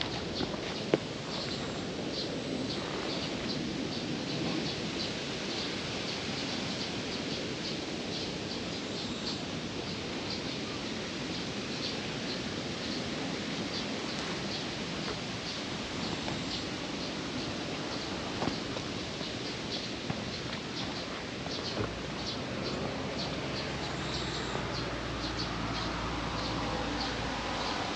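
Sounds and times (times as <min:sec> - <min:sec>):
outdoor park background noise: 0:00.0 - 0:27.9.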